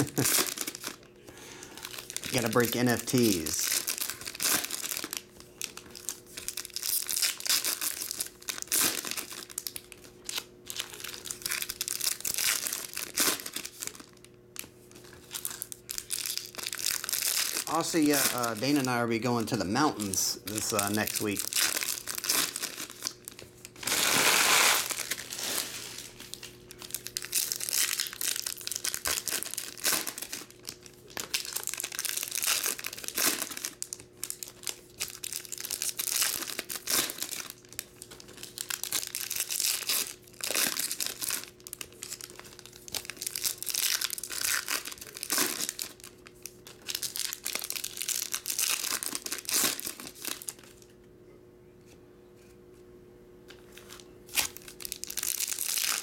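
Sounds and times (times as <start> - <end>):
foil wrappers crinkling and tearing: 0.0 - 50.9, 53.6 - 56.0.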